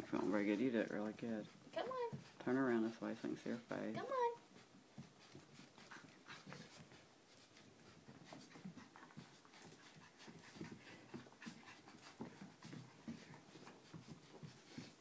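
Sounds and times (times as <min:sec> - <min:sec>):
puppies scuffling: 0:00.0 - 0:15.0.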